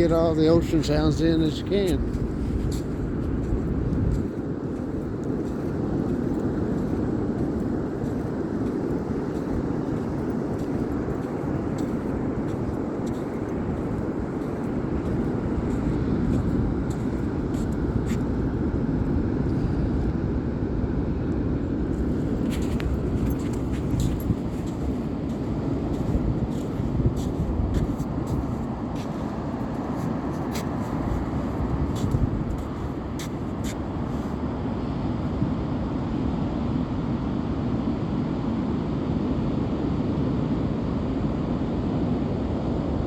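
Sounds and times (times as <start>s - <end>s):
waves breaking on shore: 0.0s - 20.6s, 21.5s - 37.4s.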